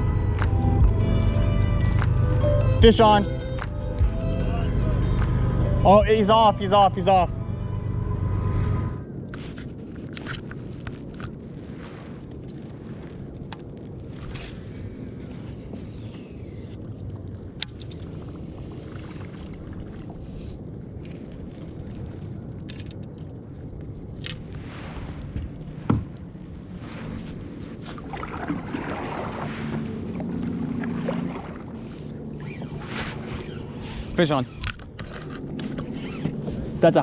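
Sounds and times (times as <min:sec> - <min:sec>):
low hum: 0:00.0 - 0:37.0
water noise: 0:00.0 - 0:37.0
wind: 0:00.0 - 0:37.0.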